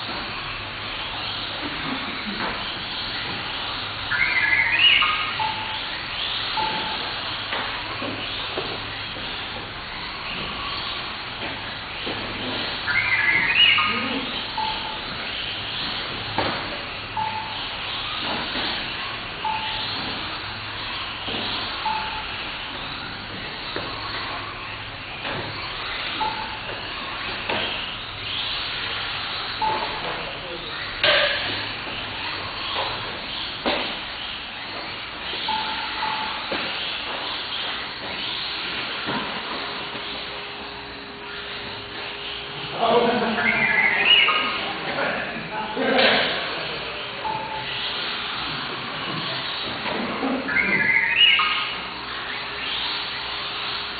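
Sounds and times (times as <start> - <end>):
faint steady whine: 0.0 - 53.9.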